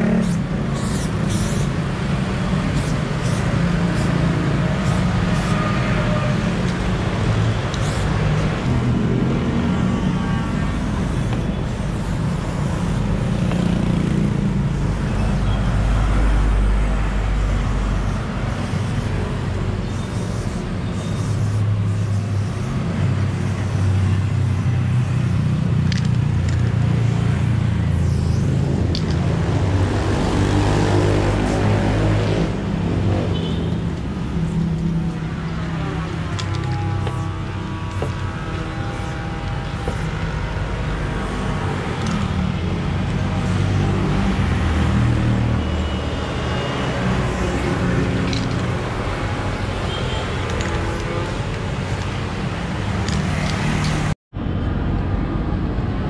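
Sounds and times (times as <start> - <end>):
street traffic noise: 0.0 - 56.0.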